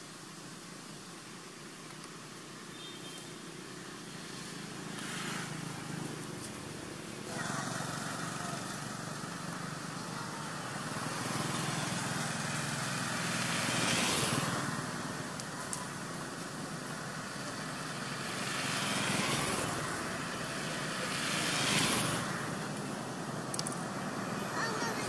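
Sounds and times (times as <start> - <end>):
passing traffic: 0.0 - 25.0
vehicle engine humming: 0.0 - 25.0.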